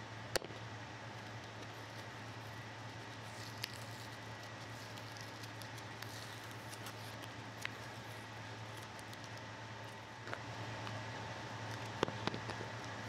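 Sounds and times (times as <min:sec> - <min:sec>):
steady low hum: 0:00.0 - 0:13.0
tape peeling crackles: 0:01.1 - 0:11.0, 0:11.6 - 0:13.0.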